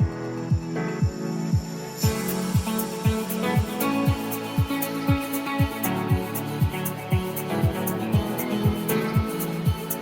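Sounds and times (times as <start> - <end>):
deep kick drum: 0.0 - 10.0
held chords: 0.0 - 10.0.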